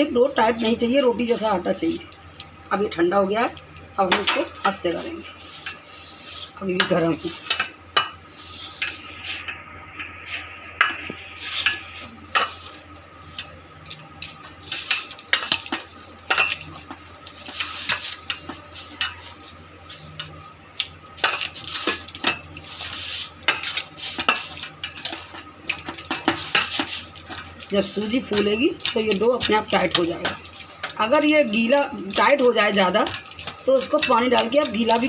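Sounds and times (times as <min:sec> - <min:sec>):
dough kneaded in steel bowl: 0:02.7 - 0:35.0.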